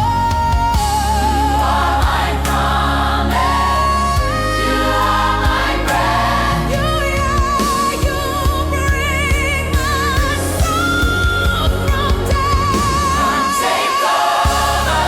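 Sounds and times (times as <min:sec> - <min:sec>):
bass notes: 0:00.0 - 0:13.6, 0:14.5 - 0:15.0
gospel singing with choir: 0:00.0 - 0:15.0.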